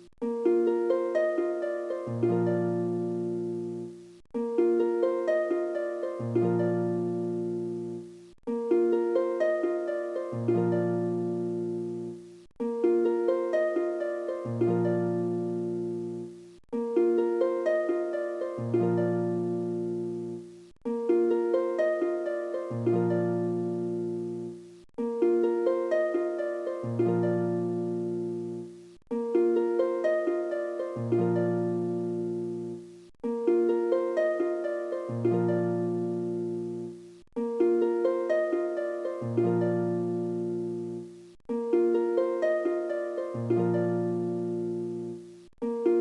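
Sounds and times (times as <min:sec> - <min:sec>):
plucked-string melody: 0:00.0 - 0:46.0.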